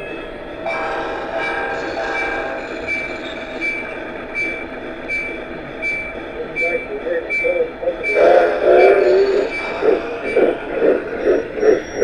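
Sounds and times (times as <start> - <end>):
ringing bell tone: 0.0 - 12.0.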